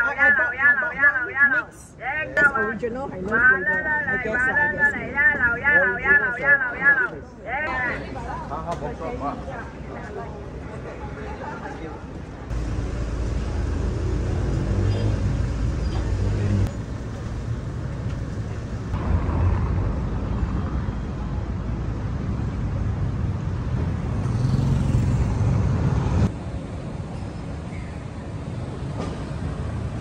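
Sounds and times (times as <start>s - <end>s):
road traffic rumble: 0.0s - 30.0s
street noise: 0.0s - 30.0s.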